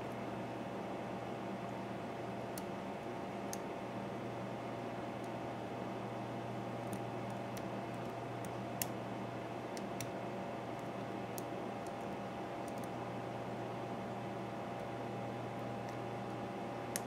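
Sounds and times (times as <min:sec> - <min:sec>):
steady hiss and hum: 0:00.0 - 0:17.0.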